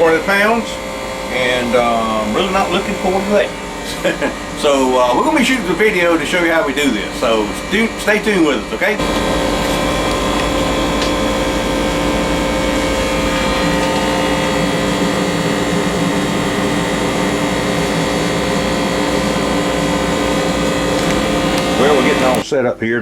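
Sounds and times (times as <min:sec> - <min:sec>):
machine droning: 0:00.0 - 0:22.4.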